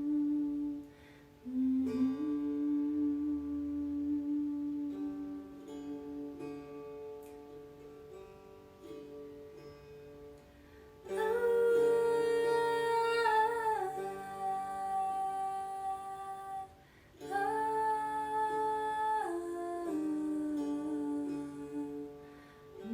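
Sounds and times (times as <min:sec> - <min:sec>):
slow meditation music: 0:00.0 - 0:22.9.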